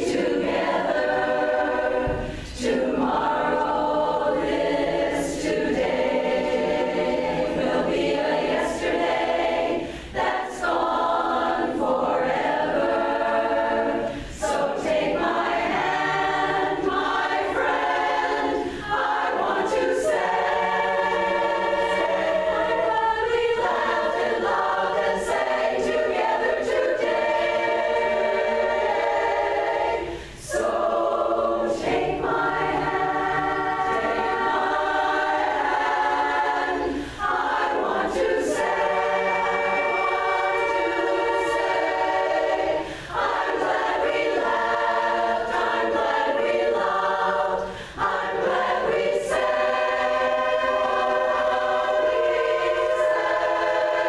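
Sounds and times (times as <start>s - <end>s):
women's chorus singing a cappella: 0.0s - 54.0s.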